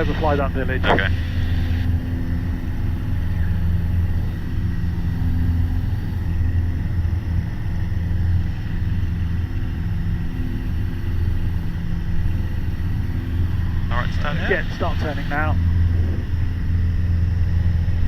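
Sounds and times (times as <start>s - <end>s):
propeller plane engine drone: 0.0s - 18.0s.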